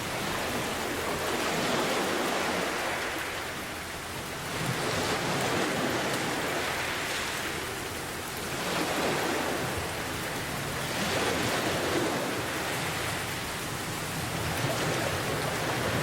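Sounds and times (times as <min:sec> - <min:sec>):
heavy rain: 0:00.0 - 0:16.0
ocean waves: 0:00.0 - 0:16.0.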